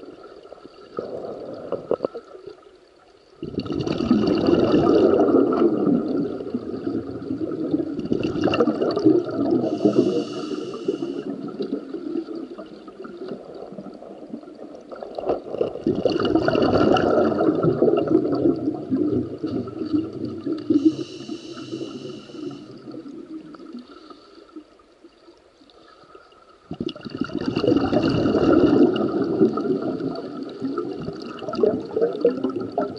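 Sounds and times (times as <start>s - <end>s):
muffled underwater water rushing: 0.0s - 32.9s.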